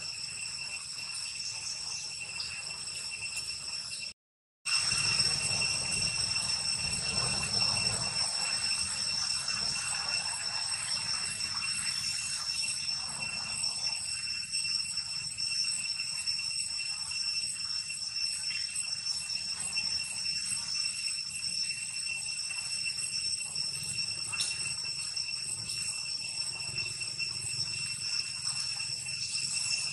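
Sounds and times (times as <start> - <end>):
high-pitched insect drone: 0.0 - 29.9.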